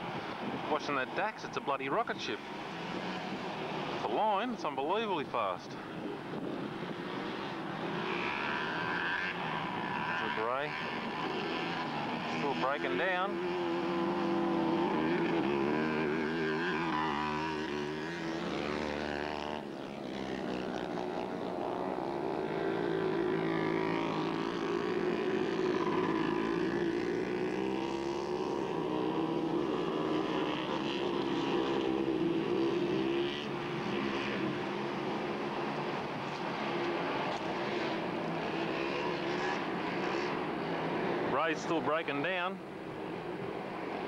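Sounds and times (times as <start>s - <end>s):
mini bike engines racing: 0.0s - 44.0s.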